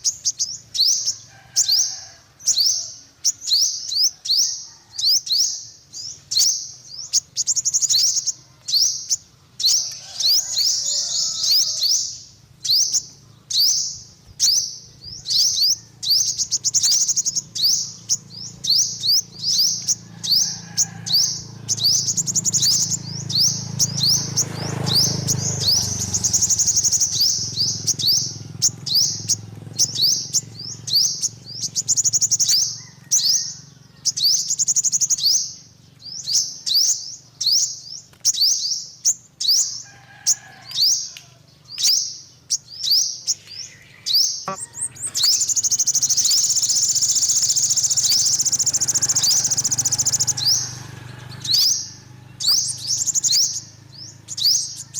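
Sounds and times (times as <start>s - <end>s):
bird chirps and trills: 0.0s - 54.9s.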